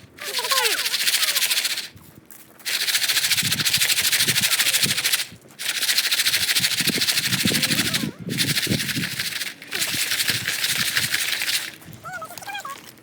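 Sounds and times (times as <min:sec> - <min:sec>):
popcorn kernels rattling in pan: 0:00.2 - 0:01.9, 0:02.6 - 0:11.8.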